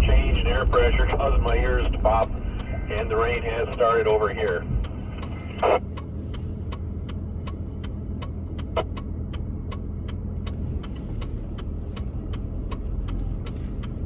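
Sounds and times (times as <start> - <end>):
car engine idling: 0.0 - 14.0
indicator ticking: 0.0 - 14.0.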